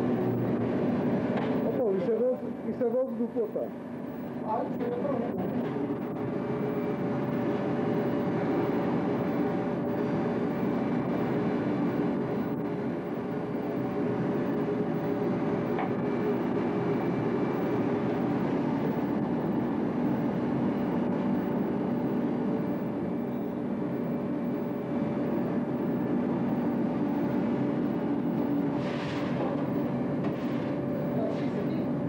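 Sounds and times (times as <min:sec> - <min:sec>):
faint steady tones: 0:00.0 - 0:32.0
machinery droning: 0:00.0 - 0:32.0.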